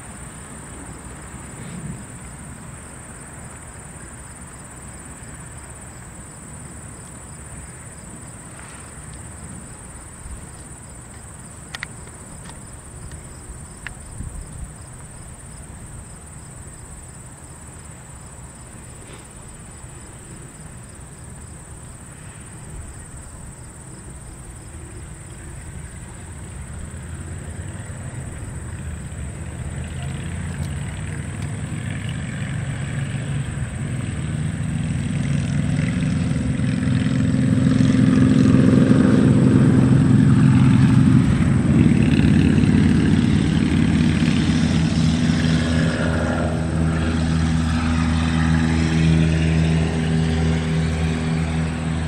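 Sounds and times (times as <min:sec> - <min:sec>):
fighter jet engine rumble: 0:00.0 - 0:52.0.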